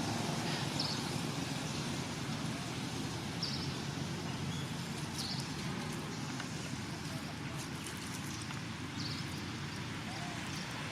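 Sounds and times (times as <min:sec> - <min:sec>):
outdoor background rumble: 0:00.0 - 0:10.9.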